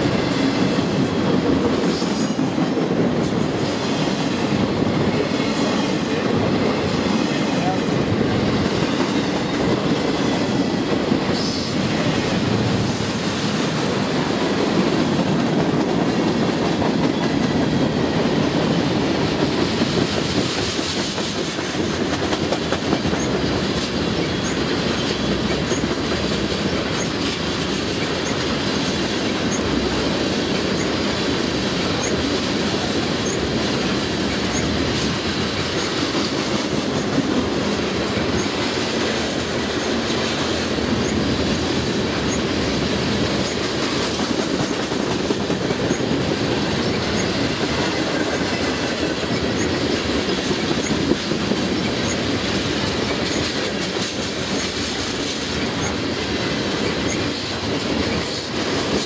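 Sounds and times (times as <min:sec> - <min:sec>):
steel wheels rumbling on rail: 0:00.0 - 0:59.0
wheels clacking over rail joints: 0:00.0 - 0:59.0.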